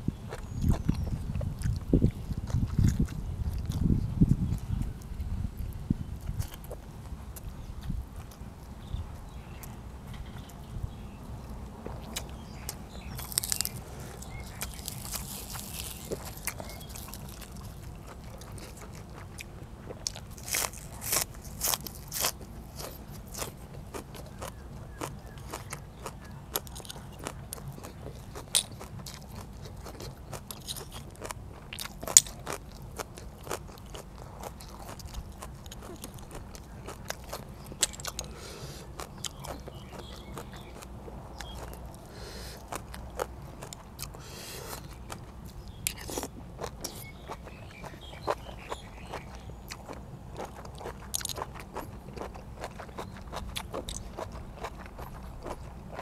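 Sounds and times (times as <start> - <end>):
person chewing crisp vegetables: 0.0 - 56.0.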